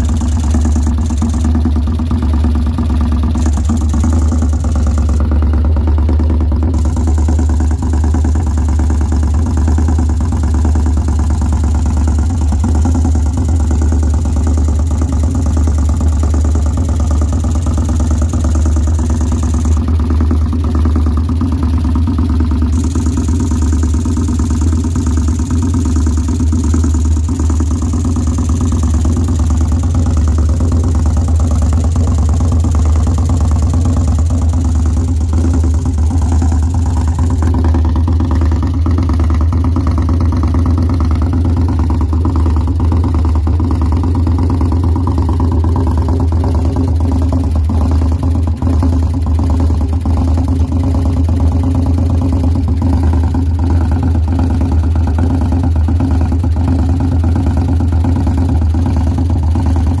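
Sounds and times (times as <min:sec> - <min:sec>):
motorcycle engine idling with tick: 0:00.0 - 1:00.0.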